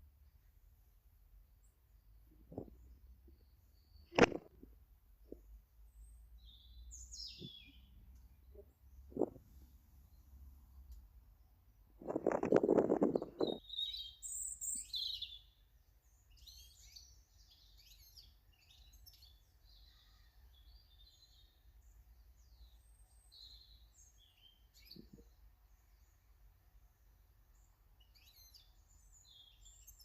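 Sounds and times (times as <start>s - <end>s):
small birds chirping: 1.5s - 30.0s.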